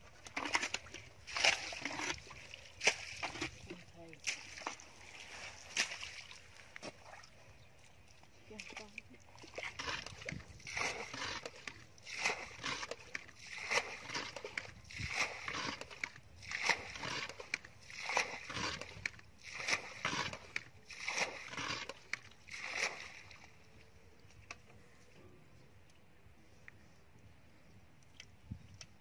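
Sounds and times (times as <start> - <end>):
bucket scooping water: 0.0 - 23.6
water sloshing and splashing: 0.0 - 24.7.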